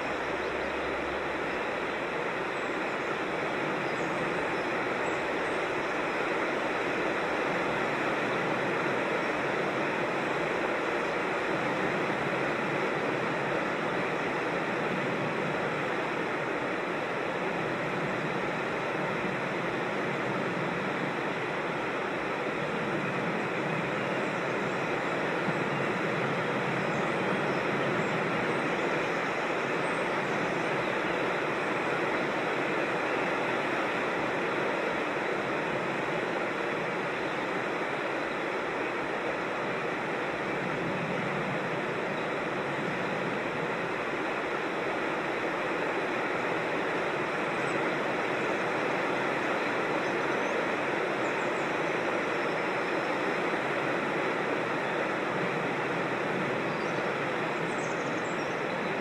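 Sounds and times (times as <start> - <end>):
rocky creek rushing: 0.0 - 59.0.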